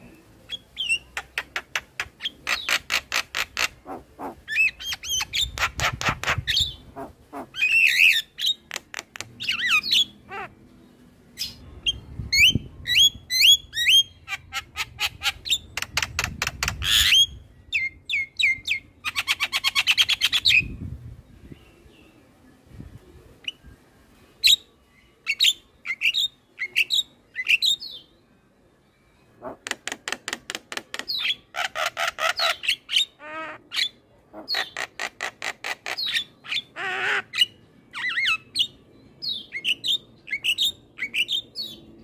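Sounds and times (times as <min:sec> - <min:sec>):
myna bird singing: 0:00.0 - 0:42.0.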